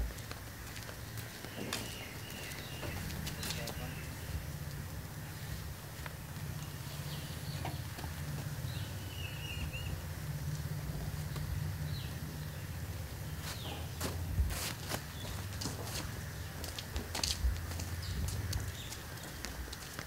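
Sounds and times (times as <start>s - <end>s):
steady low hum: 0.0s - 19.7s
birds chirping faintly: 0.0s - 20.0s.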